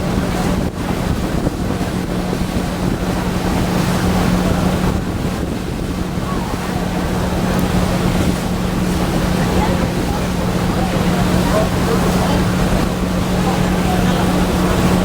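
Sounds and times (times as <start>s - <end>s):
boat engine humming: 0.0s - 15.0s
wind buffeting microphone: 0.0s - 15.0s.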